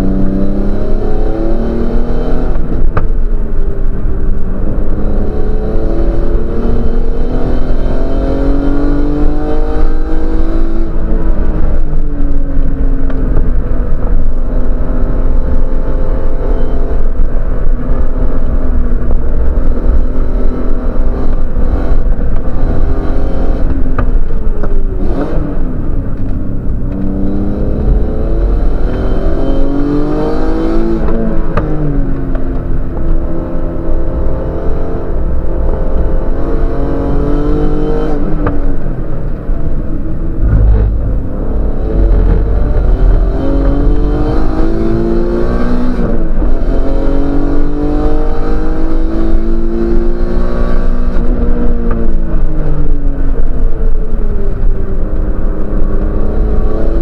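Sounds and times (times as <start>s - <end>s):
racing car engine running hard: 0.0s - 57.0s
road and wind noise: 0.0s - 57.0s.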